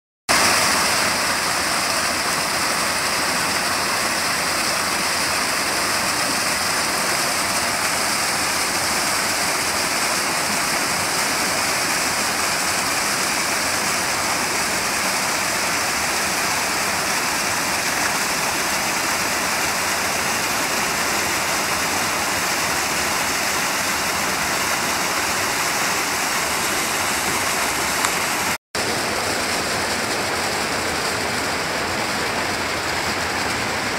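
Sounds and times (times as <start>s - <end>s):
water cascading over rocks: 0.3s - 33.9s.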